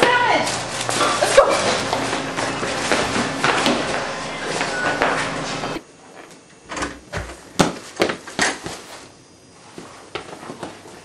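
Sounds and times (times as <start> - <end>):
noise: 0.0 - 11.0.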